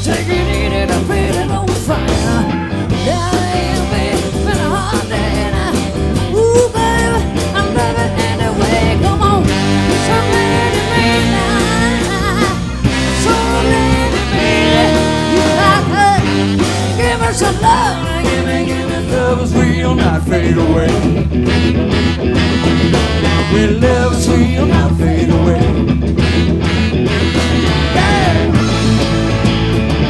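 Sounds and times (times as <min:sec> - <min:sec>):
live blues-rock band: 0:00.0 - 0:30.0
bending lead guitar notes: 0:00.6 - 0:30.0.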